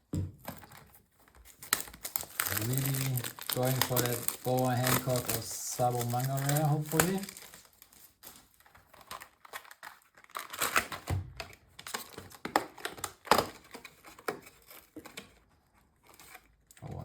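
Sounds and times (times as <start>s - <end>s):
plastic wrapping crinkling: 0.4s - 15.4s.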